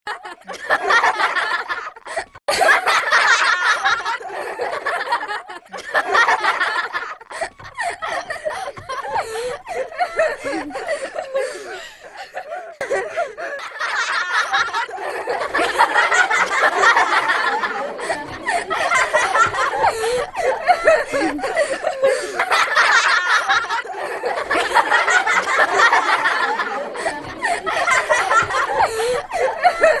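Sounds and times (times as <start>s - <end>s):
young children laughing: 0.1s - 30.0s.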